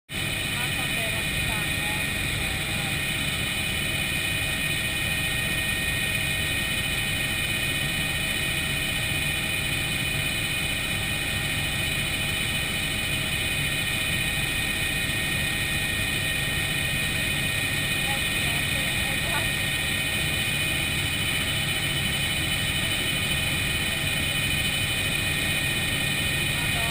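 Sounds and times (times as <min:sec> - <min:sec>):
helicopter engine and rotor drone: 0:00.1 - 0:26.9
high whine: 0:00.1 - 0:26.9.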